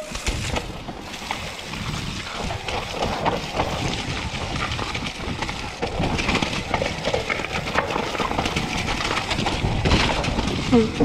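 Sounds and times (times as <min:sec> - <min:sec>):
bike rattling and knocking: 0:00.0 - 0:11.0
tyres rumbling over dirt: 0:00.0 - 0:11.0.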